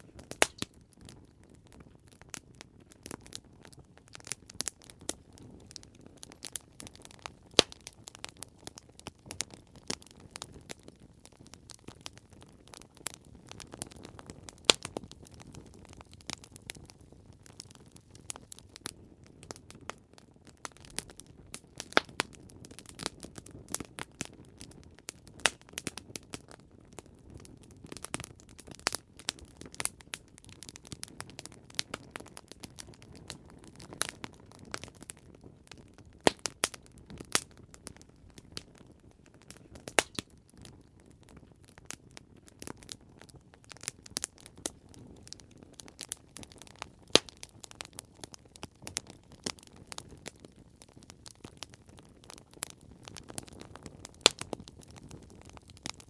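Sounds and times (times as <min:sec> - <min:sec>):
campfire crackling: 0:00.0 - 0:56.0
low hiss of burning: 0:00.0 - 0:56.0.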